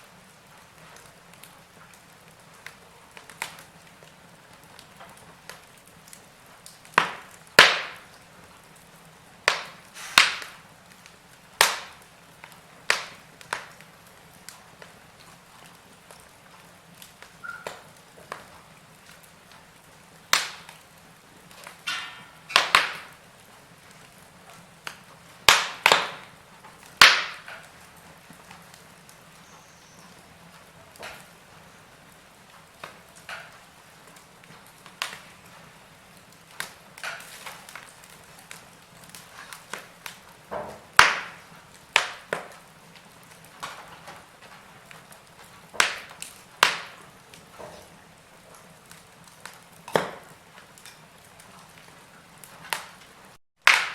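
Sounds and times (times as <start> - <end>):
faint steady hiss: 0.0 - 53.4
wood fire crackling and popping: 0.0 - 53.9.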